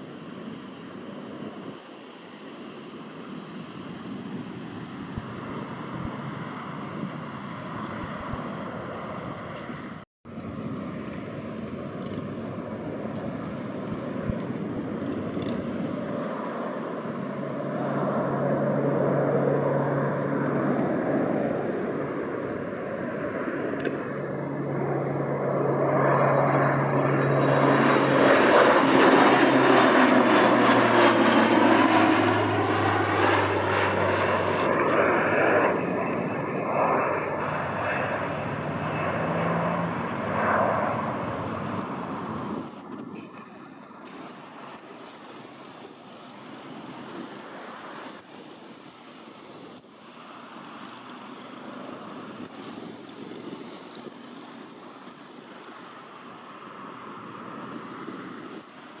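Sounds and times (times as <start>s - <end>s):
airliner passing overhead: 0.0s - 59.0s.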